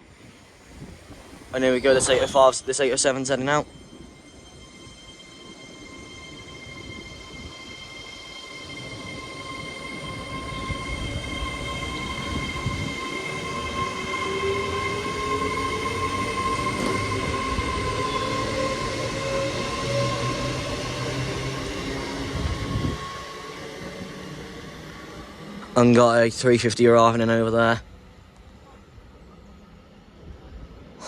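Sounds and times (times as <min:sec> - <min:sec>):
electric train motor whine: 0:00.0 - 0:30.9.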